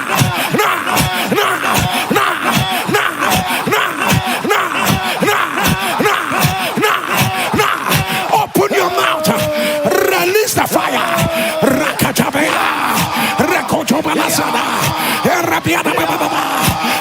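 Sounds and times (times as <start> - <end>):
person shouting prayer: 0.0 - 17.0.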